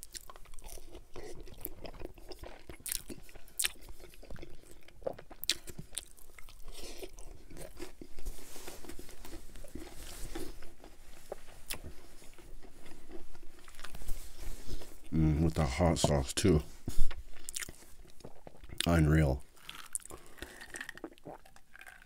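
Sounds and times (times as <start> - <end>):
man chewing crunchy food: 0.0 - 22.0.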